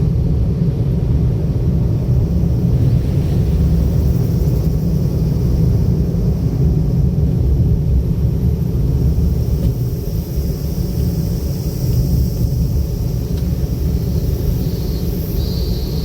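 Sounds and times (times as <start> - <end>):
car engine rumble: 0.0 - 16.0
tyre road noise: 0.9 - 16.0.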